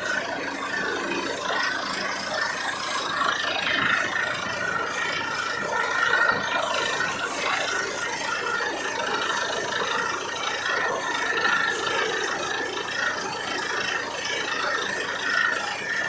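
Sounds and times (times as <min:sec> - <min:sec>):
drilling rig running: 0:00.0 - 0:16.0
wavering high whine: 0:00.0 - 0:16.0.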